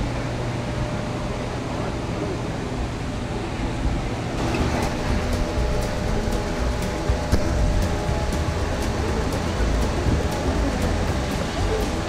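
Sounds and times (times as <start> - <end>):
ventilation fans whirring: 0.0 - 12.0.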